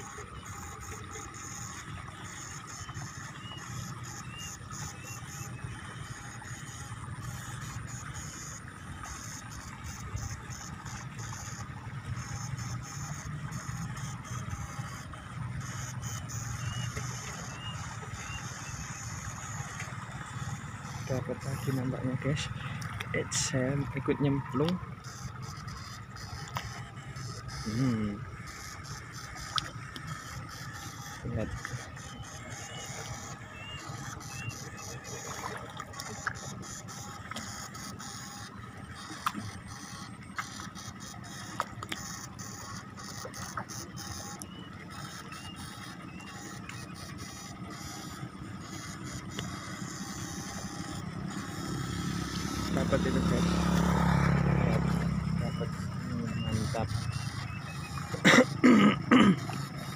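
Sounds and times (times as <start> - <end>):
electrofishing unit buzzing: 0.0 - 59.9
high-pitched electrical whine: 0.0 - 59.9
wading in mud: 0.0 - 59.9.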